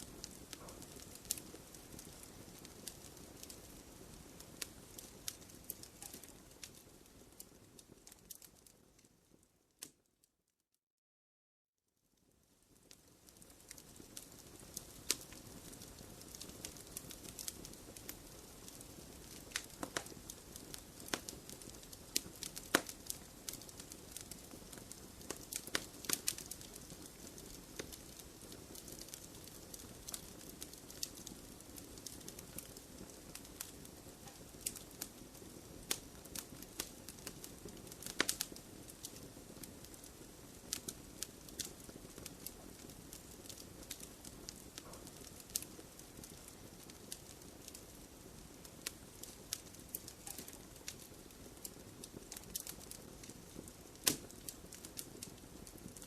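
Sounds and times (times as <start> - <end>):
wood fire crackling and popping: 0.0 - 10.0, 12.5 - 56.0.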